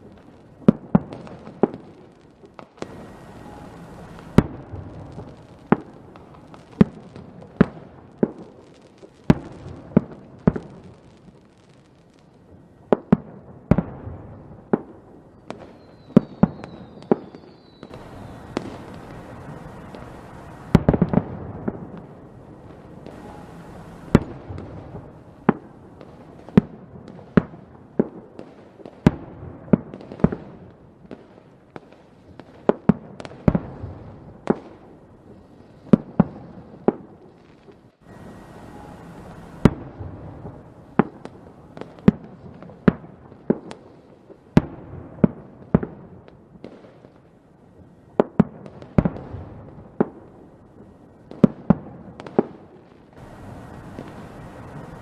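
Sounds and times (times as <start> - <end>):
fireworks bangs: 0.0 - 55.0
fireworks rumble and crackle: 0.0 - 55.0.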